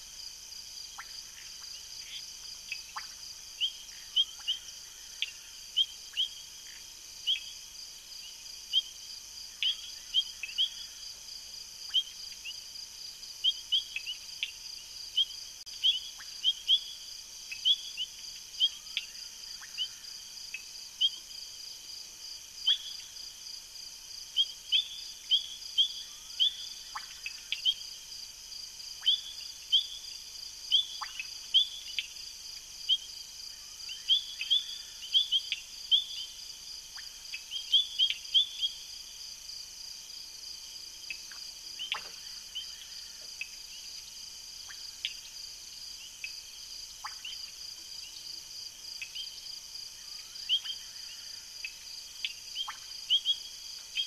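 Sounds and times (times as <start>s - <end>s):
sharp insect chirps: 0.0s - 11.2s, 11.8s - 21.2s, 24.3s - 28.0s, 28.6s - 54.0s
insects trilling: 0.0s - 54.0s.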